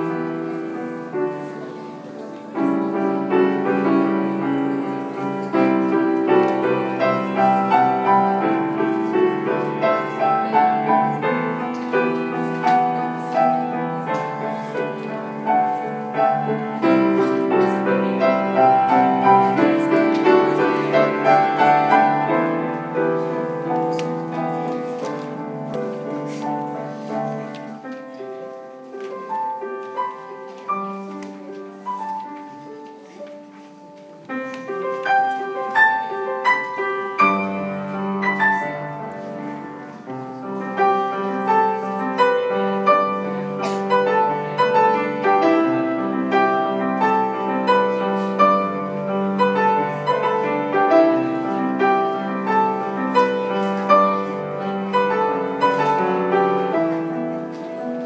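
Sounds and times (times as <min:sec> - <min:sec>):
grand piano: 0:00.0 - 0:58.0.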